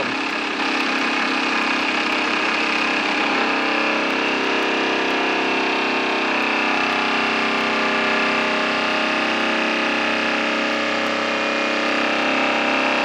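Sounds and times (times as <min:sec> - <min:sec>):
lathe spinning dynamo whirr: 0:00.0 - 0:13.0.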